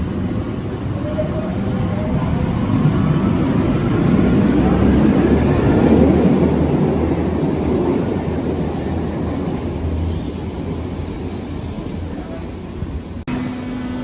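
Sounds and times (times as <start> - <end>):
train rumbling on track: 0.0 - 13.5.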